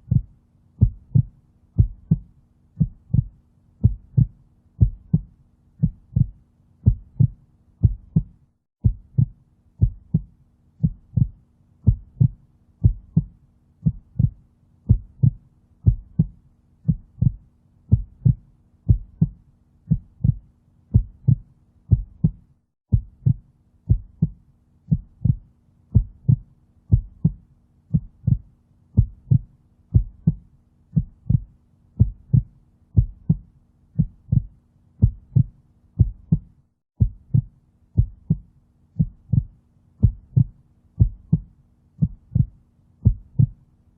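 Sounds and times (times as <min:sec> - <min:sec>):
heartbeat double thump: 0:00.8 - 0:02.2, 0:02.8 - 0:11.3, 0:11.9 - 0:14.3, 0:14.9 - 0:16.3, 0:16.9 - 0:25.4, 0:26.0 - 0:28.4, 0:29.0 - 0:29.4, 0:30.0 - 0:30.4, 0:31.0 - 0:31.4, 0:32.0 - 0:33.4, 0:34.0 - 0:38.4, 0:39.0 - 0:43.5.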